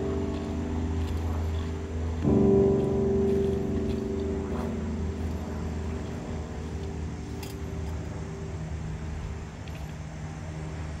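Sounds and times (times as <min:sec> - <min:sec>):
background music: 0:00.0 - 0:10.9
steady low hum: 0:00.0 - 0:11.0.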